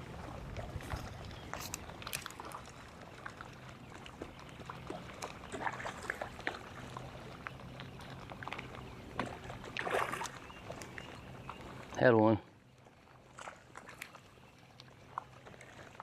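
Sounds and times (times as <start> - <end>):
small water splashes: 0.0 - 16.0.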